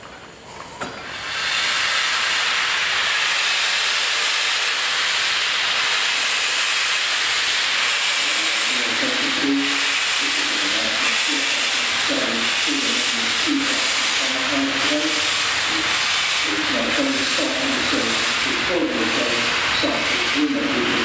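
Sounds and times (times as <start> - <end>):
steam locomotive steam hiss: 0.4 - 21.0.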